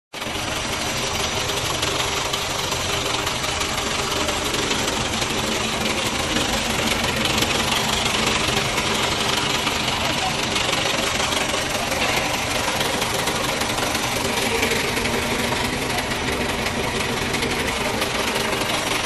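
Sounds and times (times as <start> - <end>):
vacuum pumps running: 0.2 - 19.0.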